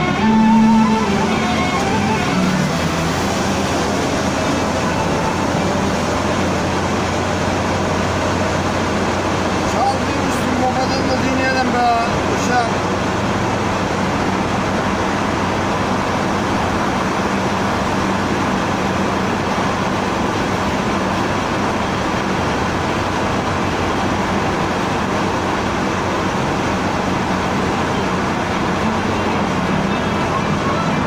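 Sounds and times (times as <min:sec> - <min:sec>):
low engine hum: 0:00.0 - 0:31.0
tyres rushing on asphalt: 0:00.0 - 0:31.0.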